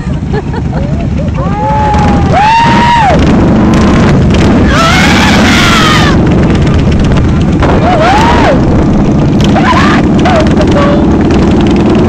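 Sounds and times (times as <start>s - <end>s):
riders whooping: 0.0s - 11.0s
motorcycle engines running: 0.0s - 12.0s
wind on microphone: 0.0s - 12.0s.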